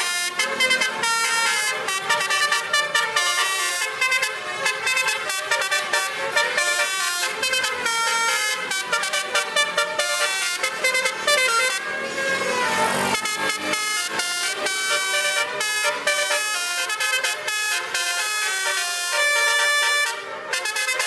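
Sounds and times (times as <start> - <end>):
tuned air horns playing melody: 0.0 - 21.0.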